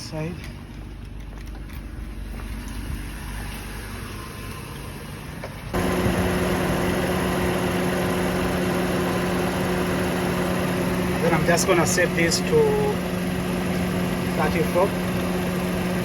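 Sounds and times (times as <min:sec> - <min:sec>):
car engine idling: 0:00.0 - 0:16.0
tire pump humming: 0:00.0 - 0:16.0.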